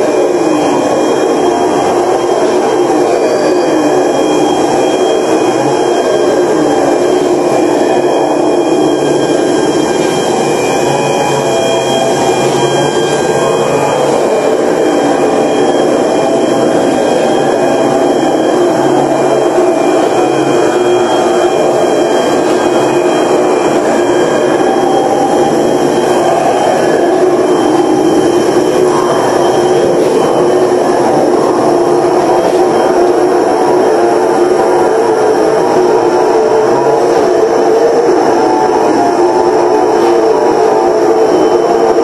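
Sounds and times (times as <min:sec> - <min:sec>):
dense mechanical drone: 0:00.0 - 0:42.0.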